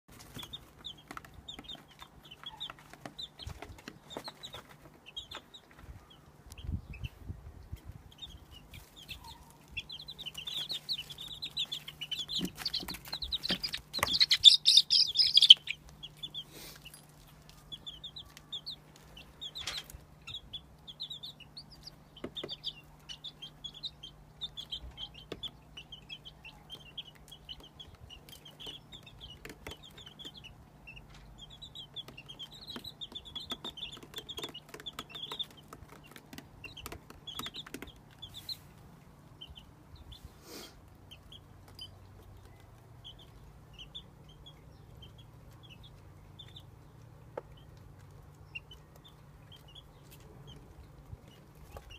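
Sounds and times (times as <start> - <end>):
baby chicks peeping: 0.1 - 51.9.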